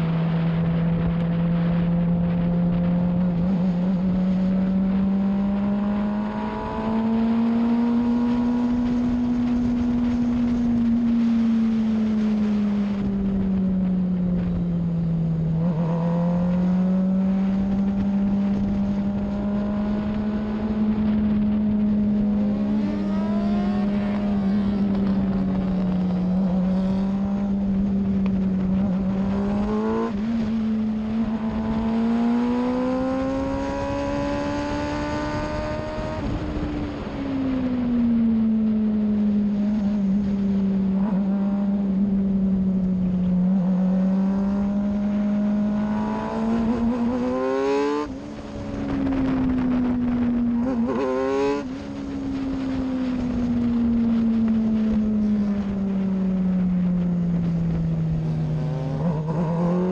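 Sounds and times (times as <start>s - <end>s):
passing engine tones: 0.0s - 37.2s, 37.8s - 59.9s
race car engine at speed: 0.0s - 59.9s.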